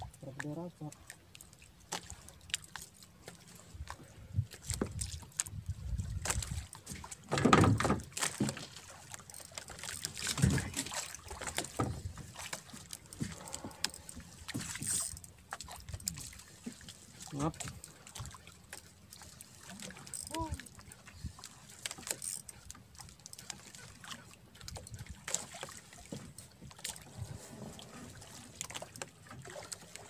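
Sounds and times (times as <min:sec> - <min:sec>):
water sloshing against boat hull: 0:00.0 - 0:30.0.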